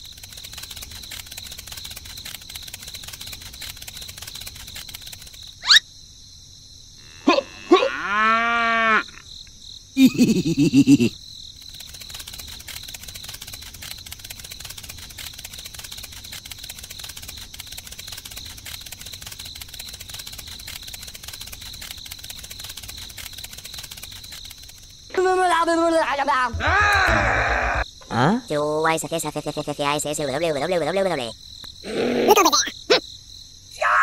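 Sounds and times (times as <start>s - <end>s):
crickets chirring: 0.0s - 34.0s.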